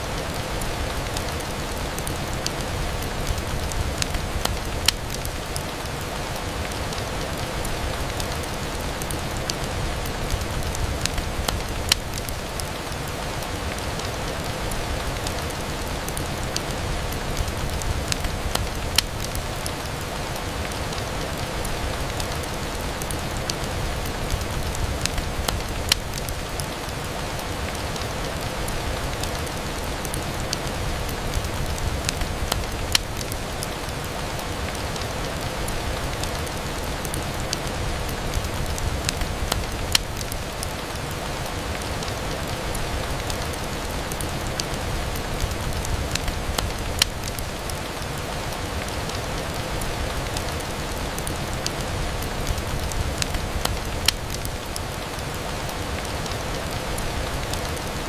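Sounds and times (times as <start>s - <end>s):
rain on window glass: 0.0s - 58.0s.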